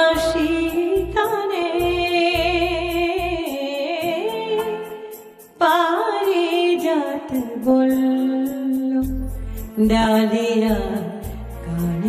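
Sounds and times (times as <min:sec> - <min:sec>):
steady percussion pattern: 0:00.0 - 0:12.0.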